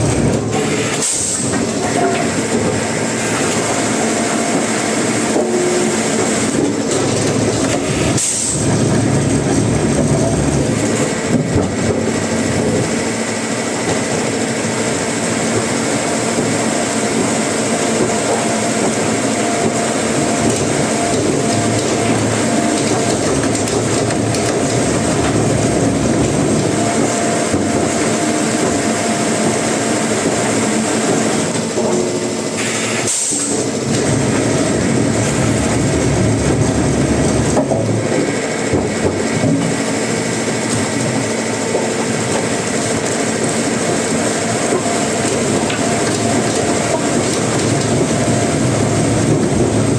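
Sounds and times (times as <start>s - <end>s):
heavy machinery running: 0.0s - 49.9s.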